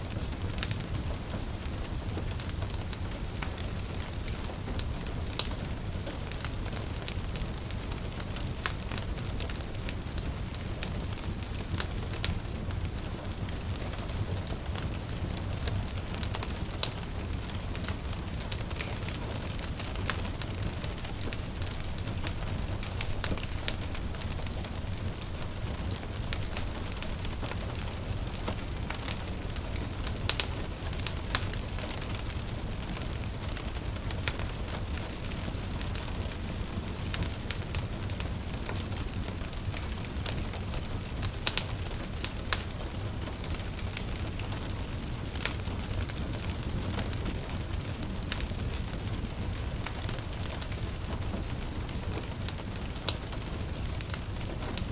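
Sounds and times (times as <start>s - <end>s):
gentle rain patter: 0.0s - 54.9s
wood fire crackling and popping: 0.0s - 54.9s.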